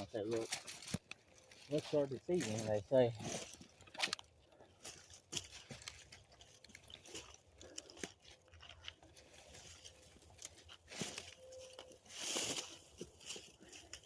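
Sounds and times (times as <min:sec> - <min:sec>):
crunches and knocks handling logs: 0:00.0 - 0:14.0.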